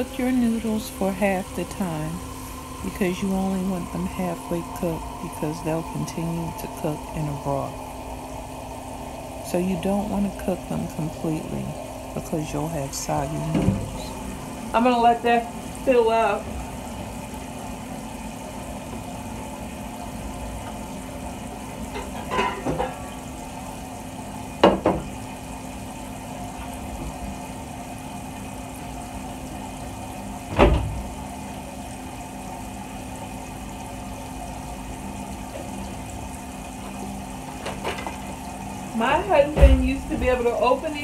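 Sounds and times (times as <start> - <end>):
tap water running into pot: 0.0 - 41.0.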